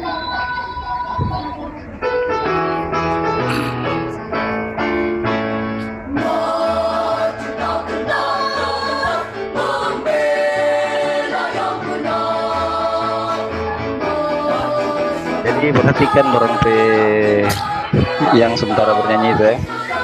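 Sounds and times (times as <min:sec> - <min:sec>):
children's choir singing: 0:00.0 - 0:02.8, 0:06.1 - 0:20.0.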